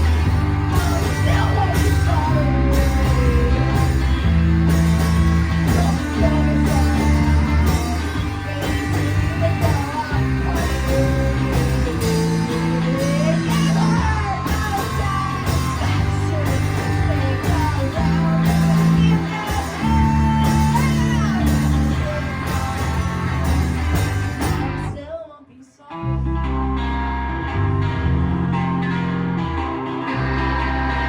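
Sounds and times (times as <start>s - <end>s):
live rock band playing: 0.0s - 25.0s, 26.2s - 31.0s.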